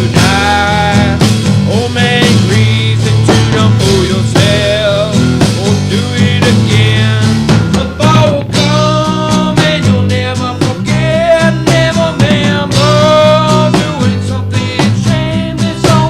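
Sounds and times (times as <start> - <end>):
rock band music: 0.0 - 16.0.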